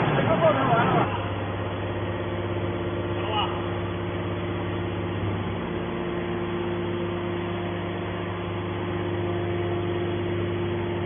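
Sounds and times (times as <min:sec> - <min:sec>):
hydraulic baler humming: 0:00.0 - 0:11.0.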